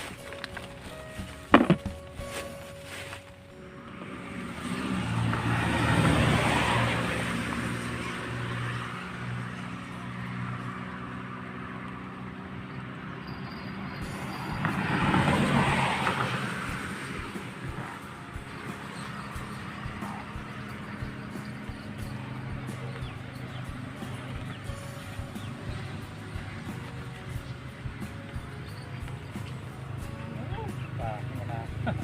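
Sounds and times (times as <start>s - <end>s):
road vehicles passing by: 0.0s - 32.0s.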